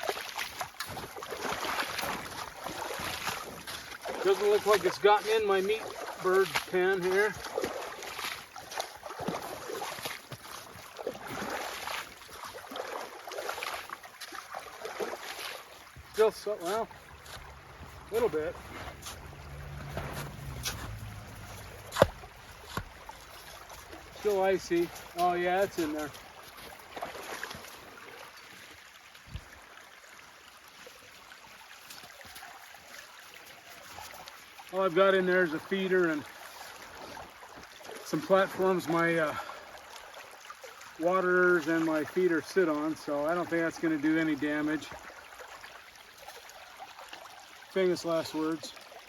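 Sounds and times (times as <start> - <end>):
water flowing with slush: 0.0 - 49.0
water splashing: 0.0 - 49.0.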